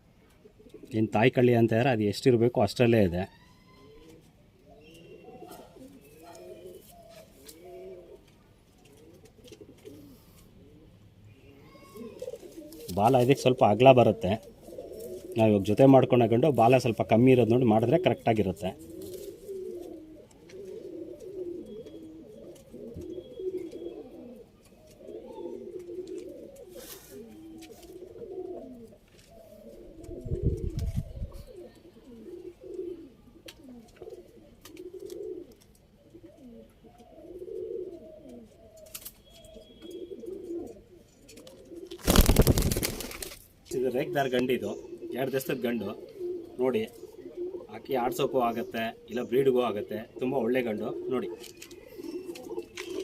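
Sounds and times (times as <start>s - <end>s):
pigeons cooing: 0.0s - 1.1s, 3.5s - 53.0s.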